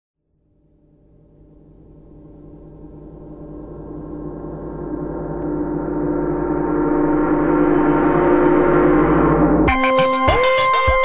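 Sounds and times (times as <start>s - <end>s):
shimmering gong-like drone: 0.4s - 11.0s.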